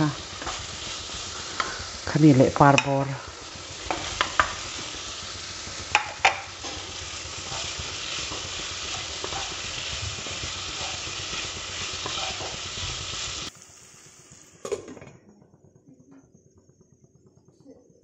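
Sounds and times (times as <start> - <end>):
vegetables sizzling in a pan: 0.0 - 15.1.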